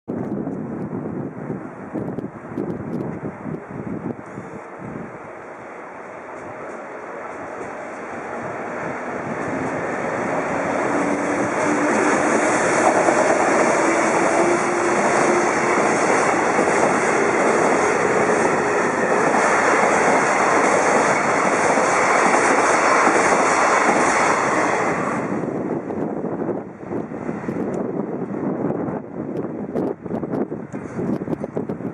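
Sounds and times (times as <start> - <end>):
freight train wheels on rail: 0.1 - 31.9.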